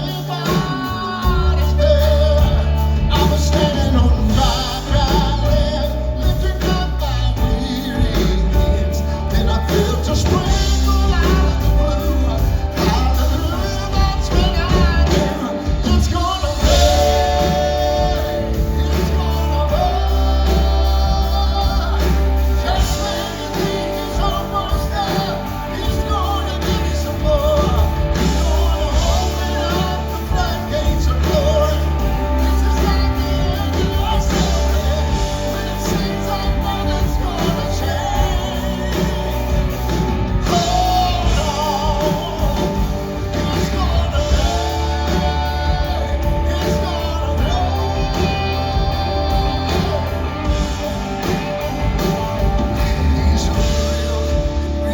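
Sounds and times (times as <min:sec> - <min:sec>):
band with bass and drums: 0:00.0 - 0:54.9
lead singer singing: 0:00.0 - 0:54.9.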